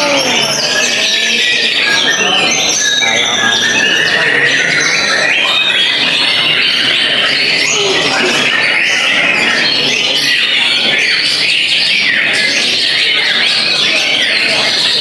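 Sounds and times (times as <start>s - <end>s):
birds singing whistles and chirps: 0.0s - 15.0s.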